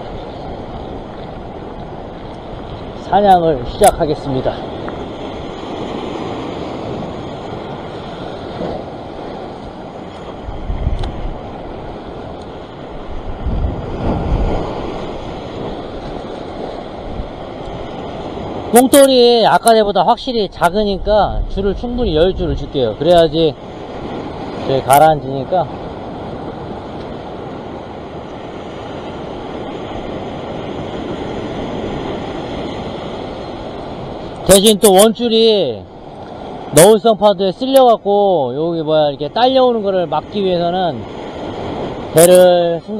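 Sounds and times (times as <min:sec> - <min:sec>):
wind buffeting microphone: 0:00.0 - 0:18.8, 0:19.7 - 0:37.0
surf washing over rocks: 0:00.0 - 0:42.9.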